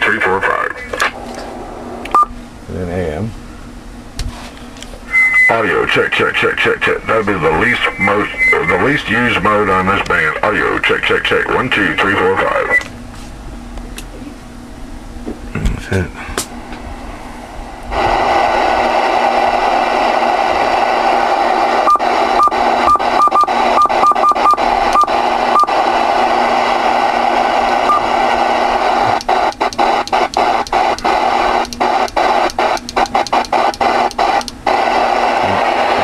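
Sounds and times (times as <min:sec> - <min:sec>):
radio static hiss: 0:00.0 - 0:03.3, 0:05.0 - 0:12.9, 0:17.9 - 0:36.0.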